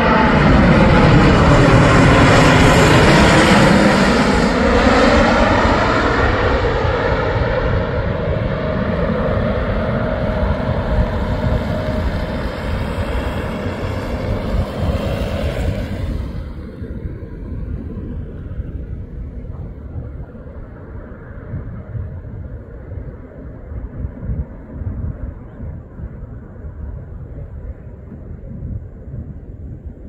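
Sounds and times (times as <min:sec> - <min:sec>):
jet passing low overhead: 0:00.0 - 0:30.0.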